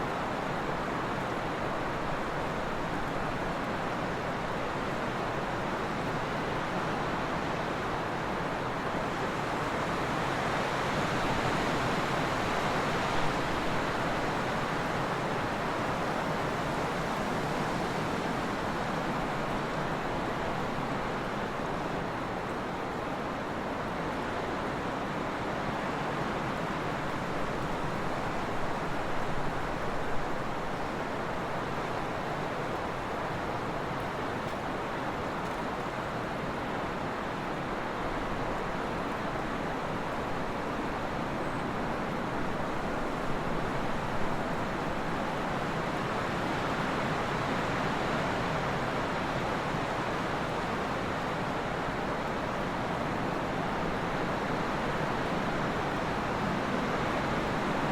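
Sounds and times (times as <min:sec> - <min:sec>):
wind blowing steadily: 0:00.0 - 0:57.9.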